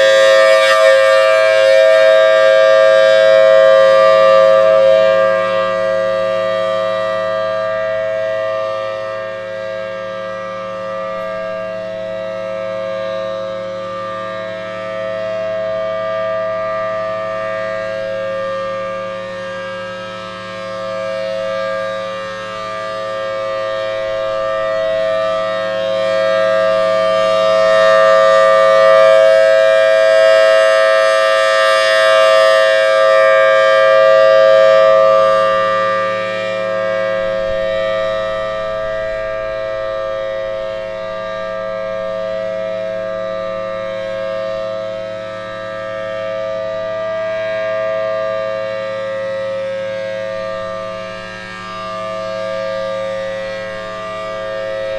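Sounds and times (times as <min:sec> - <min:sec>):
two-tone siren: 0:00.0 - 0:54.9.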